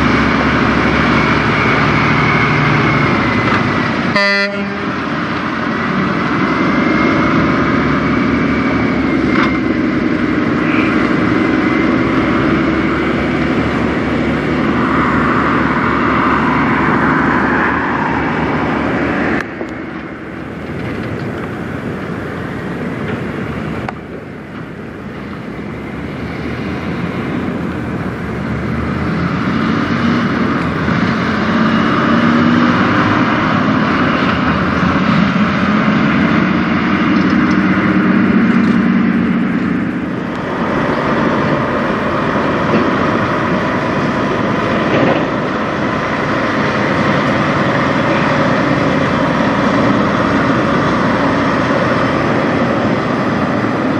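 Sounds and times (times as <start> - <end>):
truck diesel engines driving off: 0.0 - 53.9.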